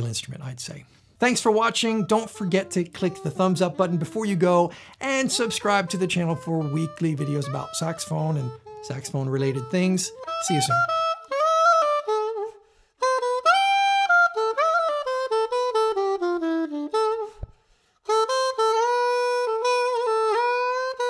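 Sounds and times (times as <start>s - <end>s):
reed wind instrument melody: 1.3s - 21.0s.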